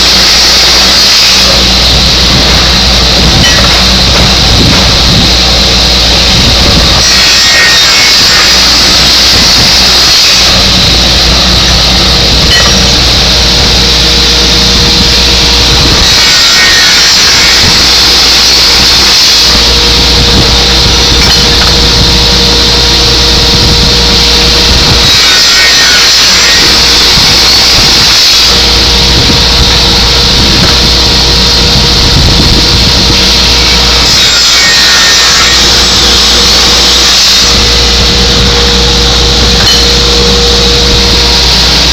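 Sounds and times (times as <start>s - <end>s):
circular saw rasping through metal: 0.0s - 41.9s
spinning saw blade whine: 0.0s - 41.9s.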